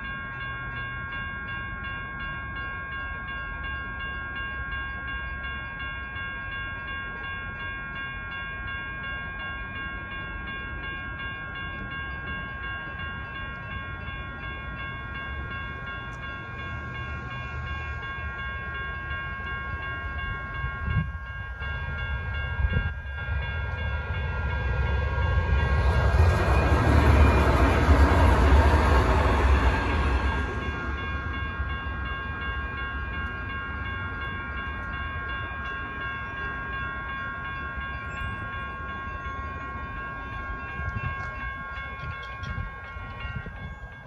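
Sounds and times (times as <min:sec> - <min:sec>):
light rail train passing: 0:00.0 - 0:44.0
railroad crossing bells ringing: 0:00.0 - 0:44.0.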